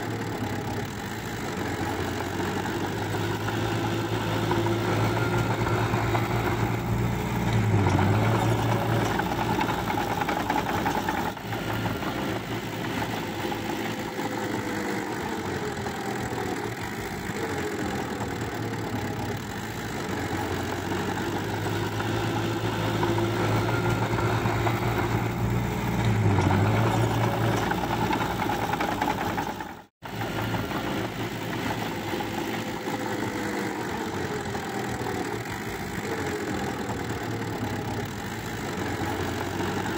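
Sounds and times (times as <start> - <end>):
dozer diesel engine running: 0.0 - 39.9.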